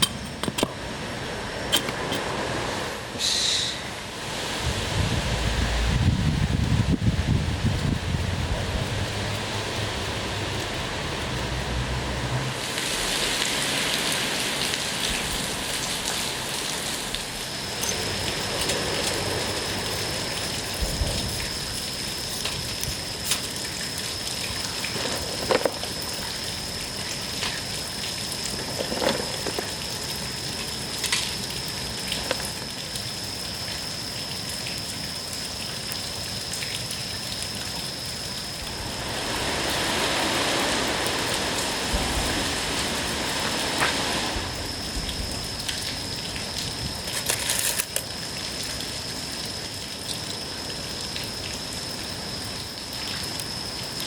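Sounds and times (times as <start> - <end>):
steady rain falling: 0.2 - 54.0.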